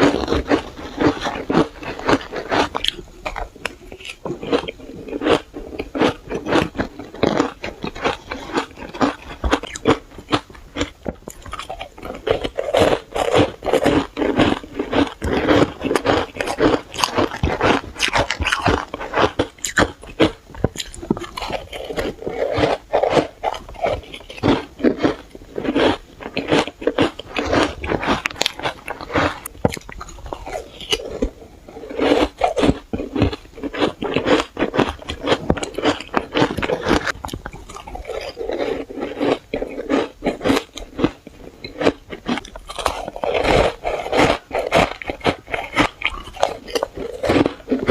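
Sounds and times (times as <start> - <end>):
crunching shaved ice: 0.0 - 47.9.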